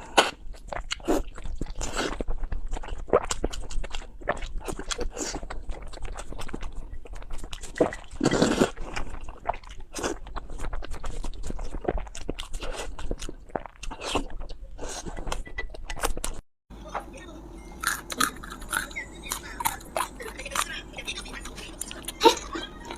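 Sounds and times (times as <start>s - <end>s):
person chewing crunchy food: 0.0s - 16.4s, 17.8s - 22.9s.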